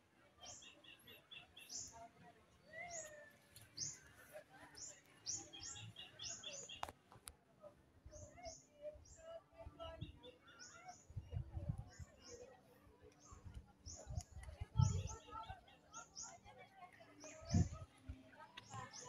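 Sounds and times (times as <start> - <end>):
small birds chirping: 0.4 - 7.0, 8.1 - 19.0.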